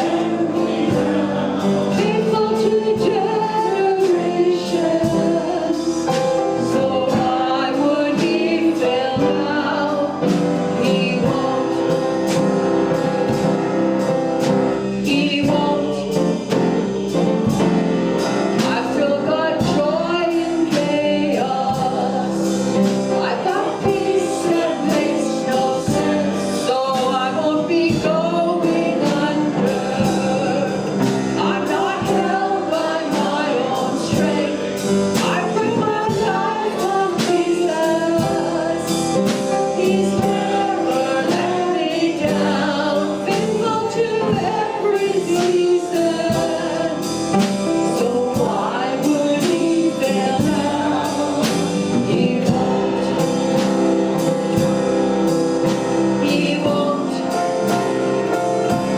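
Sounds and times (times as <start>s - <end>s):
group singing gospel song: 0.0s - 58.9s
sustained instrumental chords: 0.0s - 58.9s.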